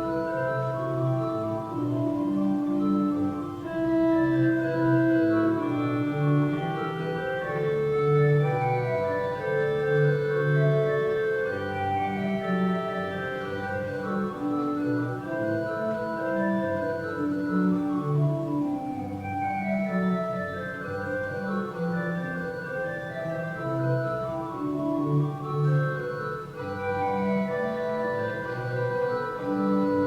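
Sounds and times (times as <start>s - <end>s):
organ chords: 0.0s - 30.0s.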